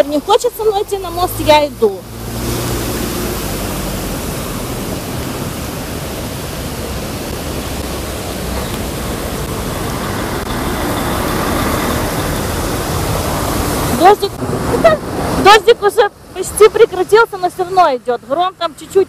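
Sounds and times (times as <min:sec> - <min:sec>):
car tyres hissing on wet road: 0:00.2 - 0:15.6.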